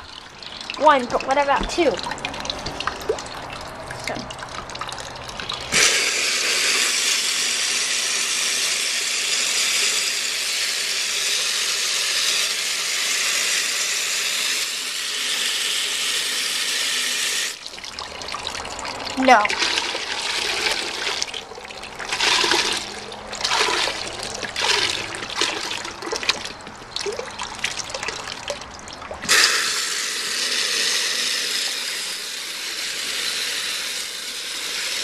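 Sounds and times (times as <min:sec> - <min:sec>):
toilet flushing: 0:00.0 - 0:35.0.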